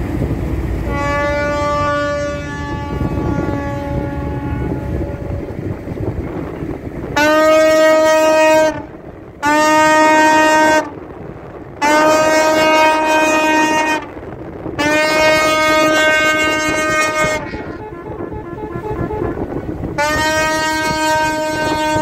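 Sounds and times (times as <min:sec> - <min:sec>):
water noise: 0:00.0 - 0:22.0
wind: 0:00.0 - 0:22.0
tugboat horn blasts: 0:00.6 - 0:11.1, 0:11.8 - 0:22.0.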